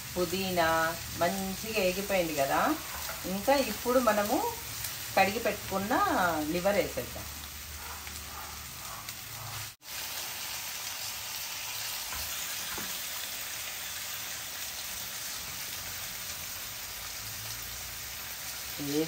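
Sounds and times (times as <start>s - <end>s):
oil sizzling in frying pan: 0.0s - 19.0s.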